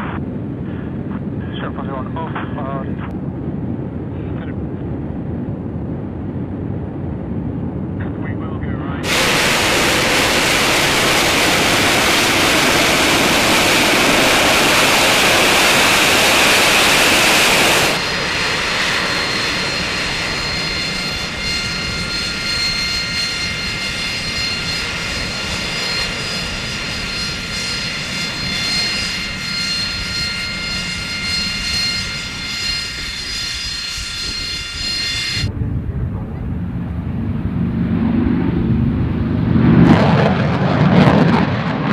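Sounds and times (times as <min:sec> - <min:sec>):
jet engine roar: 0:00.0 - 0:41.9
high multi-toned jet whine: 0:08.2 - 0:41.9.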